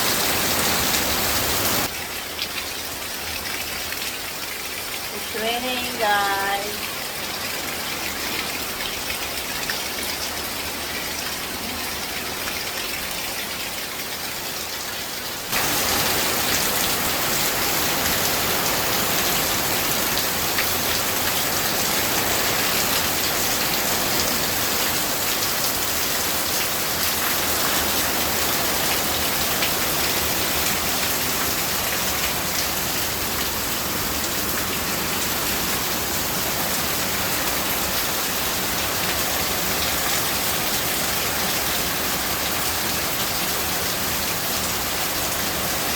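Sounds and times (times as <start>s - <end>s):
rain falling steadily: 0.0s - 45.9s.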